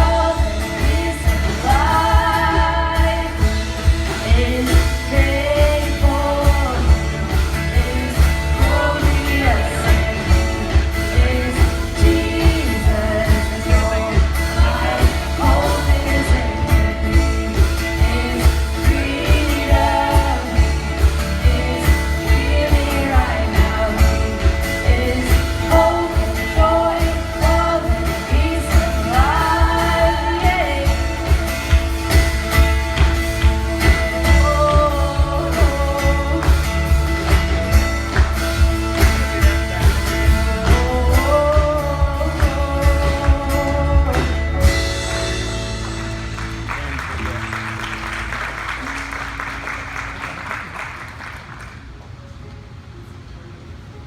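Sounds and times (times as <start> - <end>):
singing: 0.0 - 31.9, 32.6 - 37.9, 38.7 - 45.1
worship band playing: 0.0 - 54.0.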